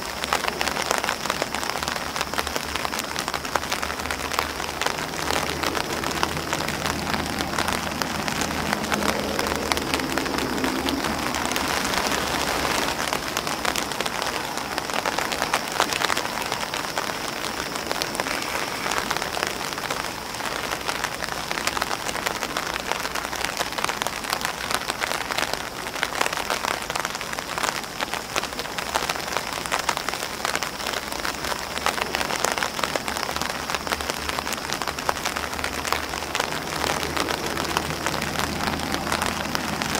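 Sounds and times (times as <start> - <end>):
rain on umbrella and grass: 0.0 - 39.9.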